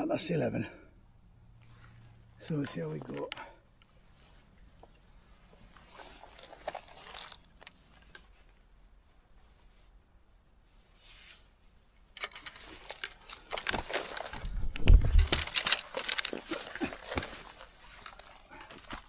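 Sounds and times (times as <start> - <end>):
rustling through vegetation: 1.5 - 19.0.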